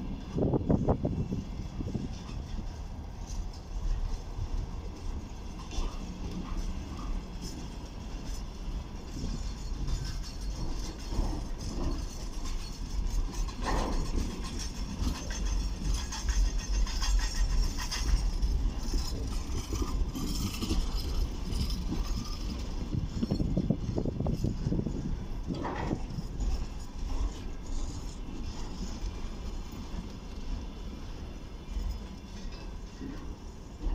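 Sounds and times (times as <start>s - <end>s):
freight train wheels rumbling: 0.0s - 33.9s.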